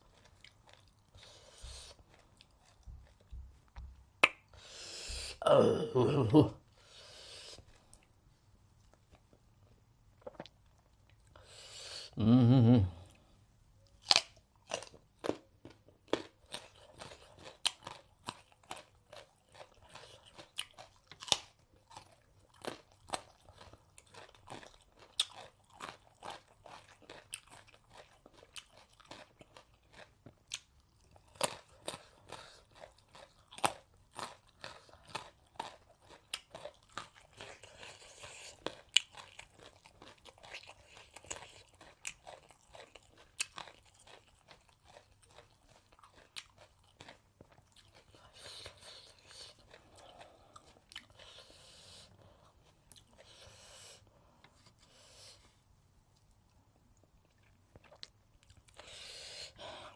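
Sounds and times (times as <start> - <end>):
person chewing crunchy food: 0.0 - 5.4, 8.8 - 11.4, 13.9 - 55.5, 57.0 - 59.9.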